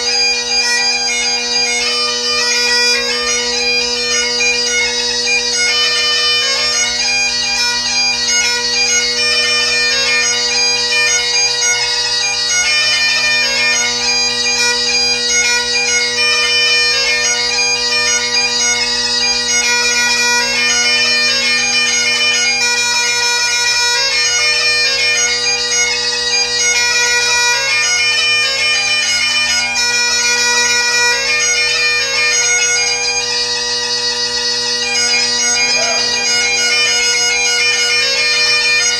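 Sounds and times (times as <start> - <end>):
bagpipe playing: 0.0 - 38.9.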